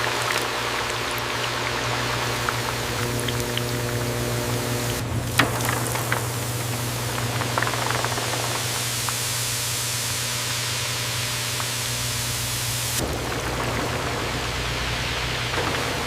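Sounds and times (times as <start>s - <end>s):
low machine hum: 0.0s - 16.0s
steady hiss: 0.0s - 16.0s.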